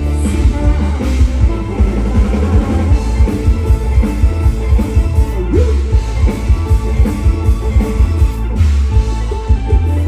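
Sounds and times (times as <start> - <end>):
electric guitar: 0.0 - 10.0
heavy bass: 0.0 - 10.0
live band music: 0.0 - 10.0
steady drumbeat: 0.0 - 10.0.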